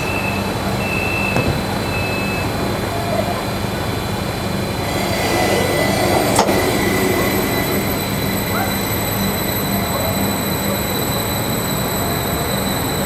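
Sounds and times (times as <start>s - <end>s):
electric train hum: 0.0s - 13.0s
rail noise: 0.0s - 13.0s.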